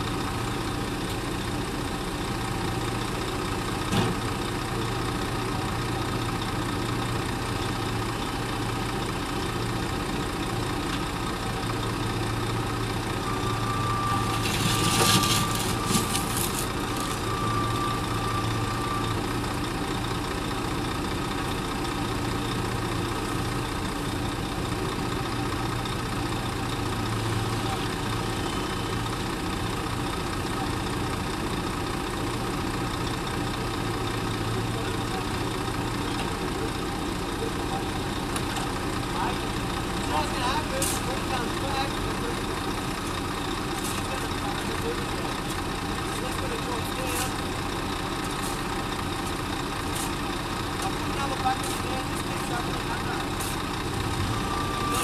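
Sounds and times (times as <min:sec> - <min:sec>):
heavy machinery engines idling: 0:00.0 - 0:55.0.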